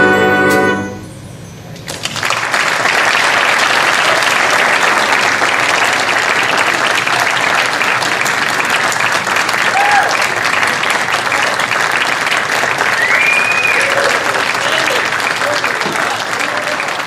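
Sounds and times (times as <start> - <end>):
audience applause: 1.9 - 17.0.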